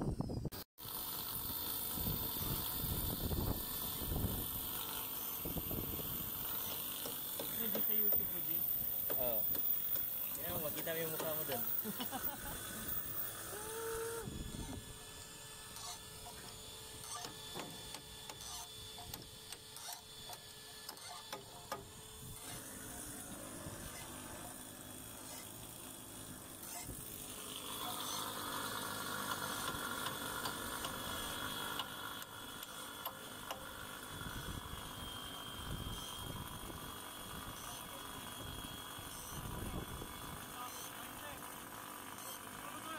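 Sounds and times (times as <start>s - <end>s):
steady high whine: 0.0s - 41.5s.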